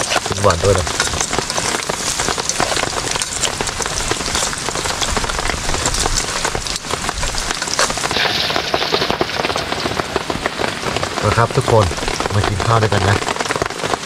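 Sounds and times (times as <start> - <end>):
meat deep-frying in hot oil: 0.0 - 14.0
rain pattering on a tarp: 0.0 - 14.0.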